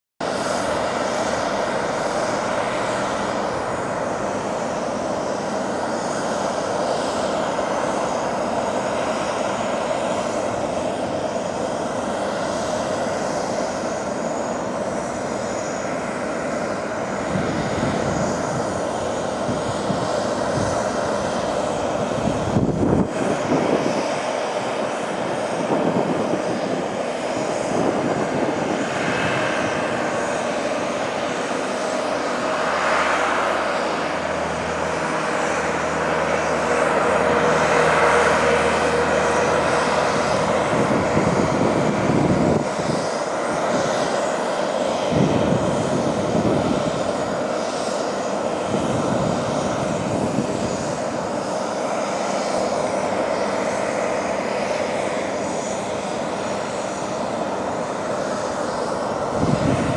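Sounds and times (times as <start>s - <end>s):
aircraft engine hum: 0.2s - 59.9s.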